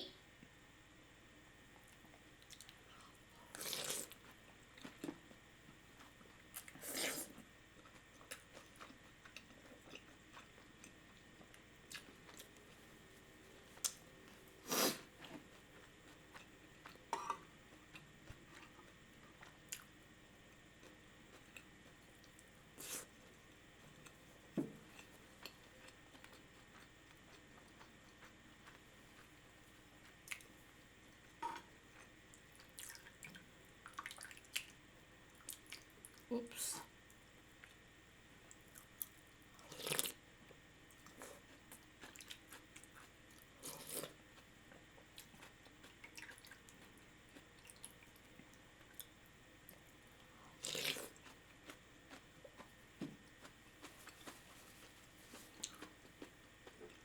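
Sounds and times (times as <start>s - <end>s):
person chewing ramen: 1.9s - 36.3s, 38.5s - 57.0s.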